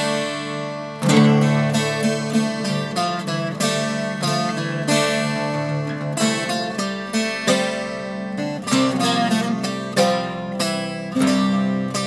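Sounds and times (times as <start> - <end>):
plucked string notes: 0.0 - 12.0
strummed string instrument chords: 0.0 - 12.0.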